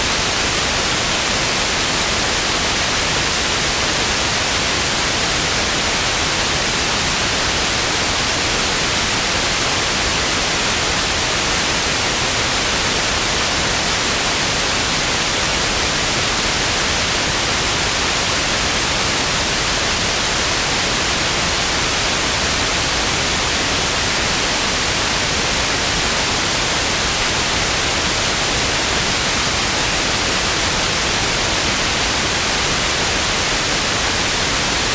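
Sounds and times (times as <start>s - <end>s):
television static hiss: 0.0s - 34.9s.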